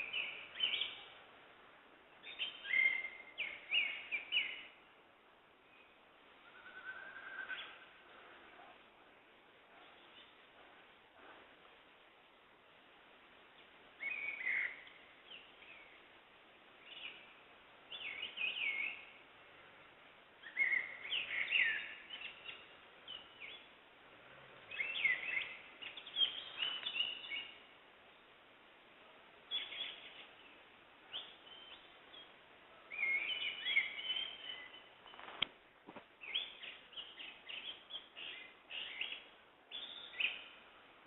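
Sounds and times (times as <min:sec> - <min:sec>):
birds chirping: 0:00.0 - 0:01.3, 0:02.1 - 0:04.8, 0:05.6 - 0:11.7, 0:13.5 - 0:28.3, 0:29.4 - 0:35.5, 0:36.1 - 0:40.9
faint background hiss: 0:00.0 - 0:41.0.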